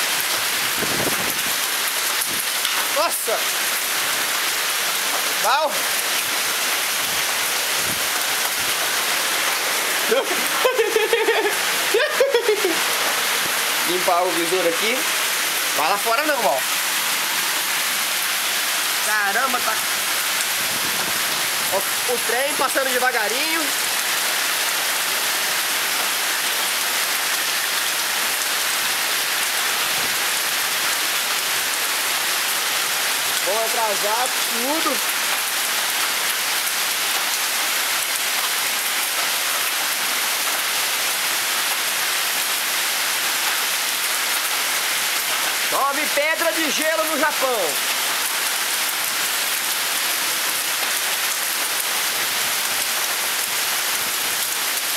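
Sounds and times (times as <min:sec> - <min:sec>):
hail and rain pelting down: 0:00.0 - 0:54.9.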